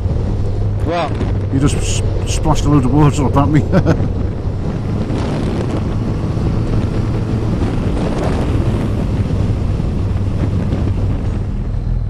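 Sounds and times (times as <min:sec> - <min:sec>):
motorcycle engine: 0:00.0 - 0:12.0
tyres on wet road: 0:00.0 - 0:12.0
wind noise on microphone: 0:00.0 - 0:12.0.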